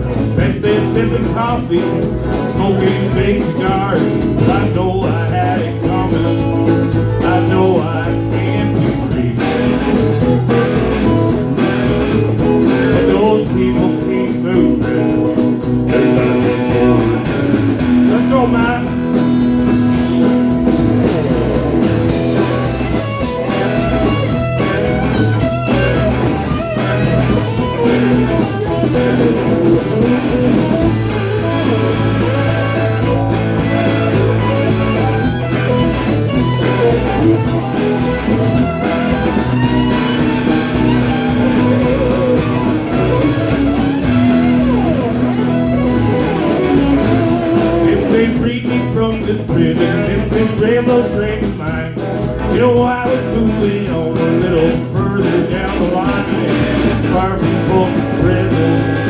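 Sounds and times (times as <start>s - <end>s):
lead guitar solo: 0.0s - 48.2s, 54.8s - 59.0s
bass guitar: 0.0s - 59.0s
drums: 0.0s - 59.0s.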